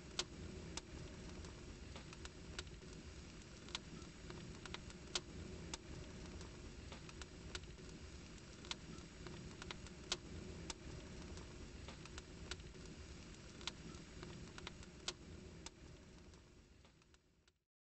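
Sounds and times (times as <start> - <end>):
low steady rumble: 0.0 - 16.9
sharp crackles and clicks: 0.0 - 17.6.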